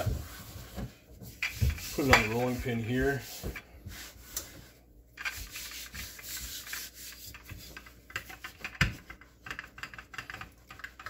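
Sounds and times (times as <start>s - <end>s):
rolling pin rubbing over dough: 0.0s - 11.0s.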